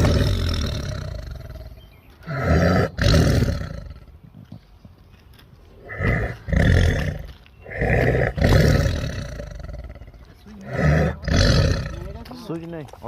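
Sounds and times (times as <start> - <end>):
tiger roaring: 0.0 - 4.1, 5.8 - 12.3.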